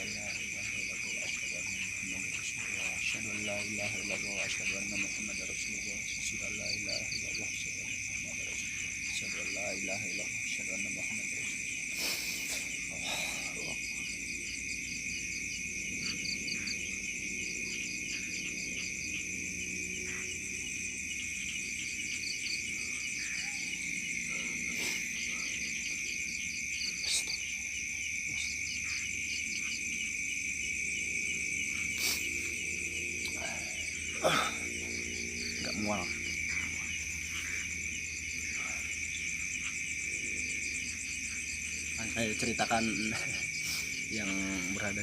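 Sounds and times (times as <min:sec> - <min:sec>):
crickets trilling: 0:00.0 - 0:45.0.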